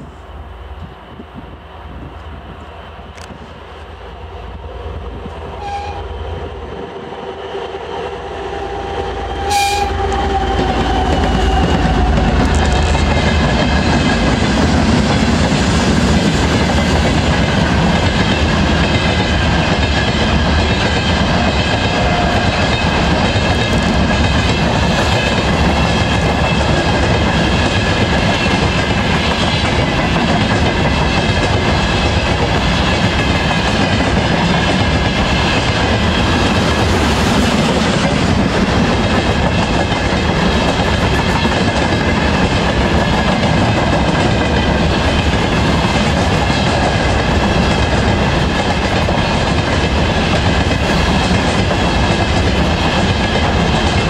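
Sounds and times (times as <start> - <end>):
diesel locomotive passing: 0.0 - 54.0
freight train wheels clattering on rails: 9.5 - 54.0.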